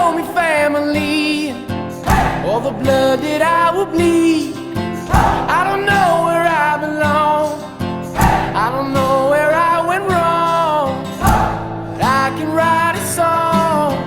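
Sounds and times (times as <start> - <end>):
person singing: 0.0 - 14.0
strummed acoustic guitar: 0.0 - 14.0.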